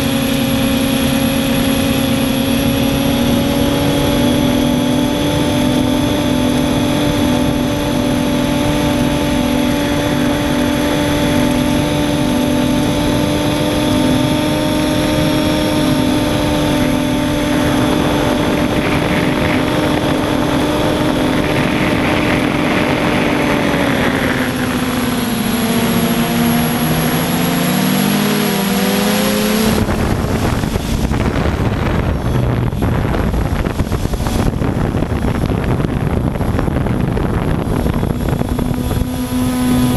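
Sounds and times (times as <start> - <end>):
quadcopter motors whining: 0.0 - 39.9
rough rushing noise: 0.0 - 39.9.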